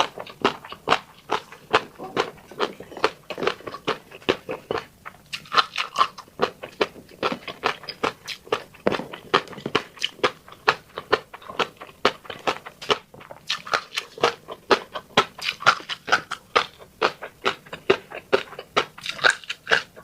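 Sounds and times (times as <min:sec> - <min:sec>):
wet chewing mouth sounds: 0:00.0 - 0:20.0.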